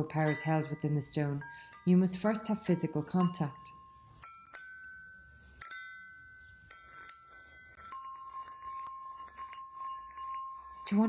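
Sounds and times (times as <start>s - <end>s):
tuned stones ringing: 0.0s - 11.0s.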